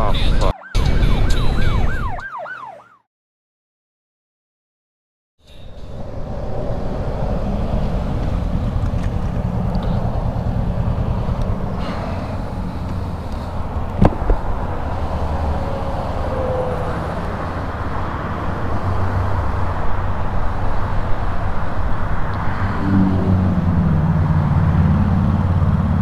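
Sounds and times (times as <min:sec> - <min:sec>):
highway traffic rushing: 0:00.0 - 0:03.0, 0:05.4 - 0:26.0.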